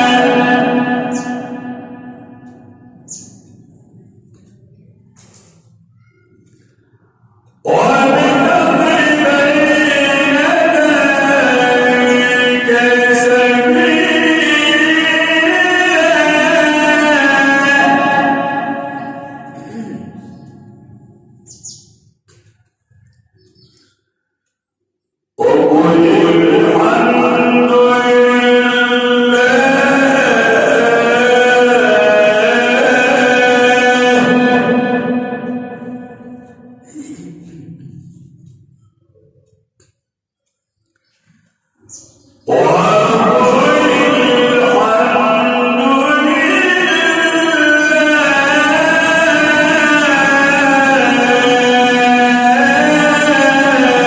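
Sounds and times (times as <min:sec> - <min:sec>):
man chanting melodically: 0:00.0 - 0:21.7, 0:25.4 - 0:39.3, 0:41.2 - 0:54.0.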